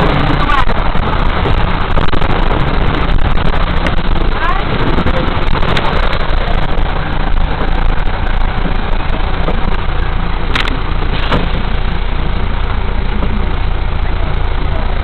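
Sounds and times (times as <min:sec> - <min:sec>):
car engine running: 0:00.0 - 0:15.0
dense rushing noise: 0:00.0 - 0:15.0.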